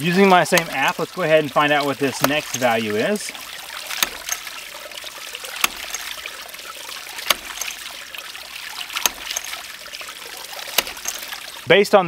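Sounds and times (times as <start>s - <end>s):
pump valve clacking shut: 0.0s - 11.6s
water trickling: 0.0s - 12.0s.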